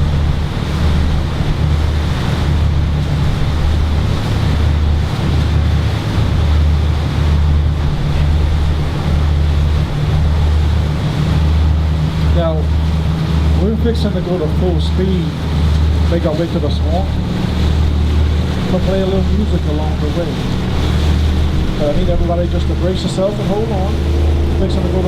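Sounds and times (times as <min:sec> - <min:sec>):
boat engine droning: 0:00.0 - 0:25.0
water rushing past hull: 0:00.0 - 0:25.0
wind buffeting microphone: 0:00.0 - 0:25.0.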